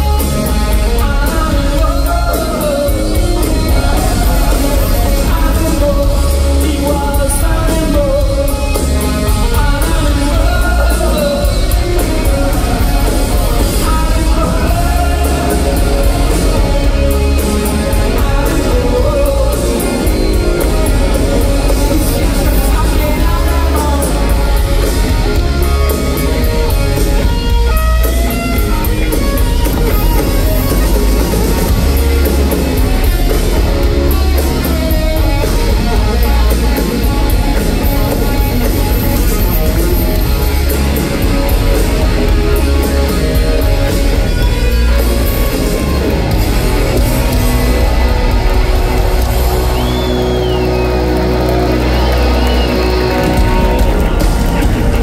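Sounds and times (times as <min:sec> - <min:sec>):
drum kit: 0:00.0 - 0:55.0
electric guitars: 0:00.0 - 0:55.0.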